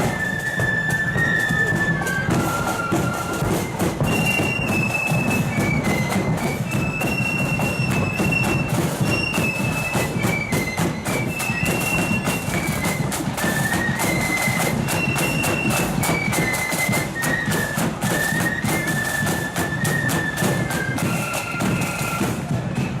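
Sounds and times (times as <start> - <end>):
flutes playing melody: 0.0 - 23.0
snare and bass drums: 0.0 - 23.0.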